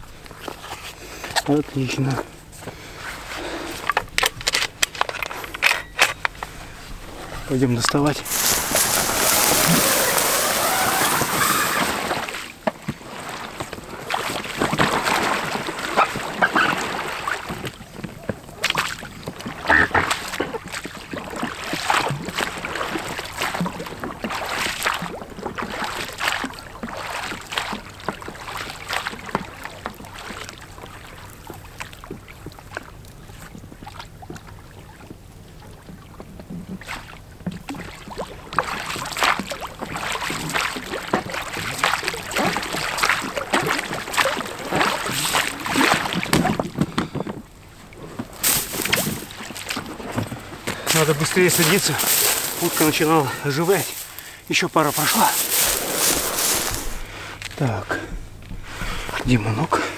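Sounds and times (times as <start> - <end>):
paddle strokes splashing in water: 8.2 - 57.2.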